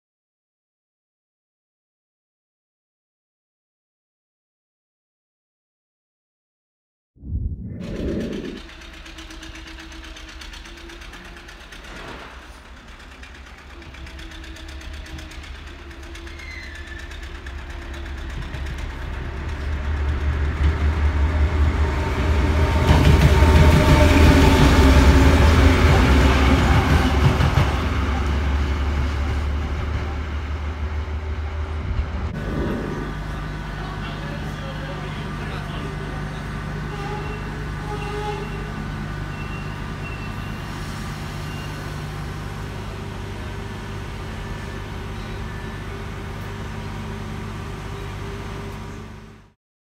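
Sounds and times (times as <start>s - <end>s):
diesel locomotive engine rumble: 7.2s - 49.6s.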